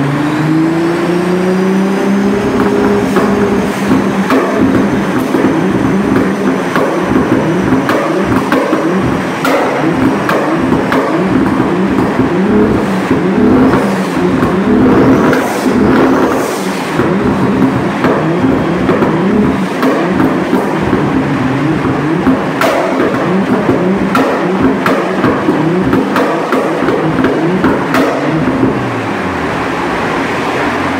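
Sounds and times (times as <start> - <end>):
car engine running under load: 0.0 - 30.9
sharp exhaust cracks: 1.6 - 29.6.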